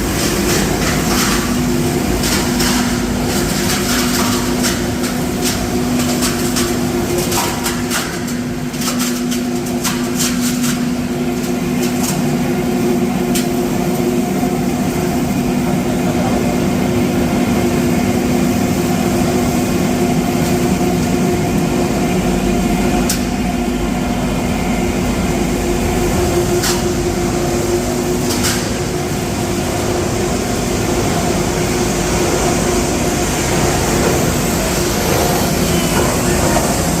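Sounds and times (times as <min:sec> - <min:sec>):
industrial machine hum: 0:00.0 - 0:37.0.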